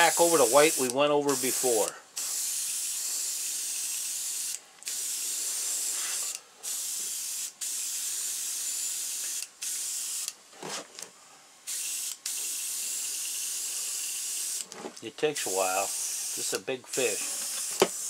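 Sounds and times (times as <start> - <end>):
airbrush spraying hiss: 0.0 - 10.3, 11.6 - 14.6, 15.4 - 18.0.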